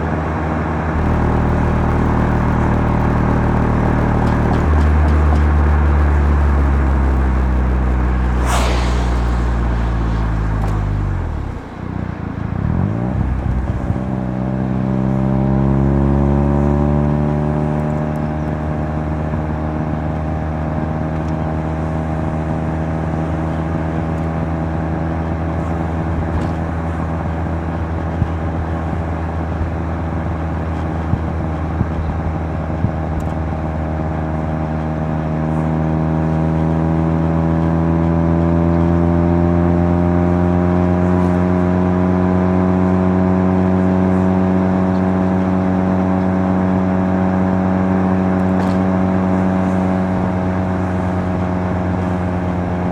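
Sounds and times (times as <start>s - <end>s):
rotary engine while driving: 0.0s - 52.9s.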